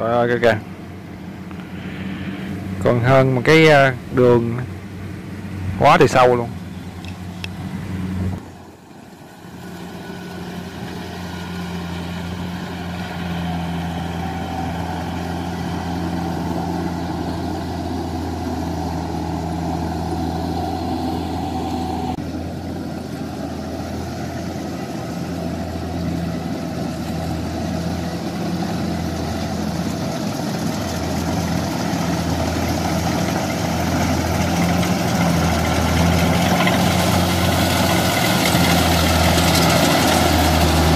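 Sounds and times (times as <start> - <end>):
combine harvester diesel engine: 0.0 - 40.9.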